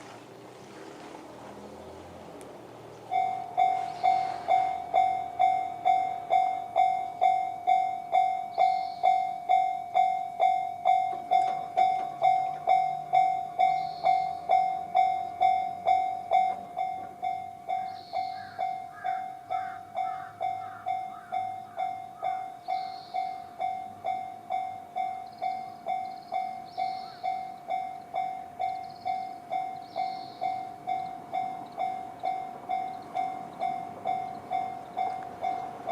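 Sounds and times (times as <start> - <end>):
level crossing alarm ringing: 3.1 - 35.9.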